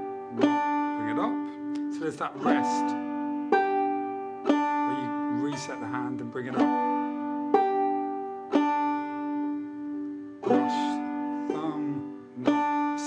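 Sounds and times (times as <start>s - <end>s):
banjo clawhammer playing: 0.0s - 13.0s.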